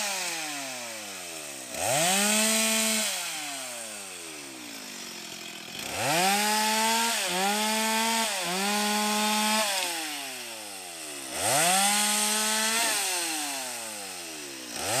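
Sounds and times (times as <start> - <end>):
chainsaw revving and cutting log: 0.0 - 15.0.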